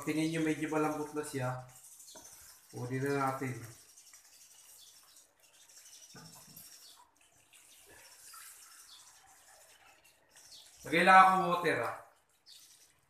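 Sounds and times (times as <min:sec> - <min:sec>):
faint tap water running: 0:00.0 - 0:13.0.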